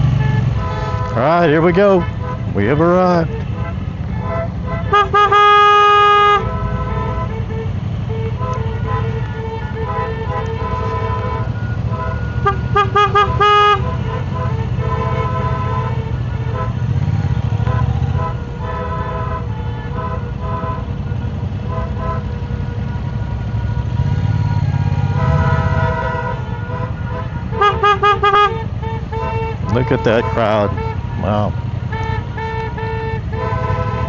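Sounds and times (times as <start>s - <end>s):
vehicle horns honking: 0.0s - 34.0s.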